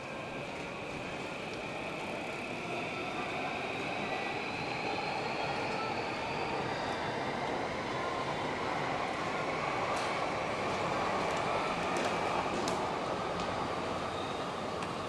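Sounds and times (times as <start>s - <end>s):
electric train rumbling on tracks: 0.0s - 15.0s
faint train whine: 0.0s - 15.0s.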